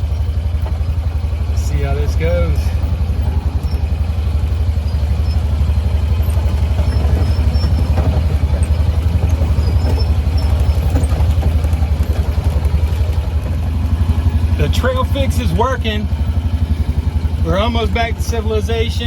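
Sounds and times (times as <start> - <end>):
utility vehicle engine rumbling: 0.0 - 19.0.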